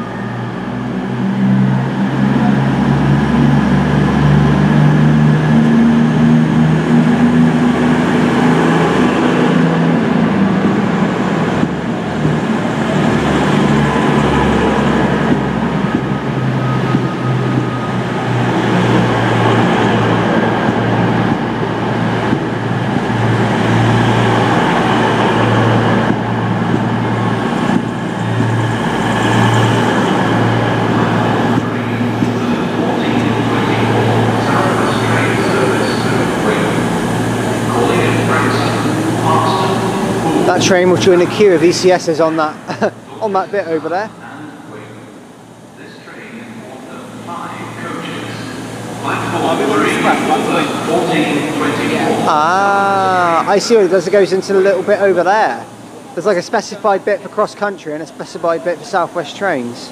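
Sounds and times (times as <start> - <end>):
diesel train passing: 0.0 - 59.9.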